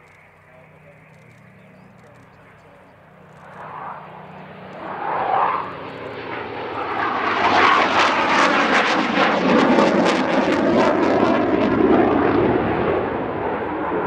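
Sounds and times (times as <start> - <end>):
aircraft engines flying past: 0.0 - 14.0.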